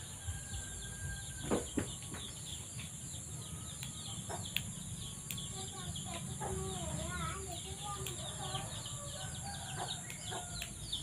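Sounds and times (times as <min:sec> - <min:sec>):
small birds chirping: 0:00.0 - 0:11.0
chickens clucking: 0:01.4 - 0:11.0.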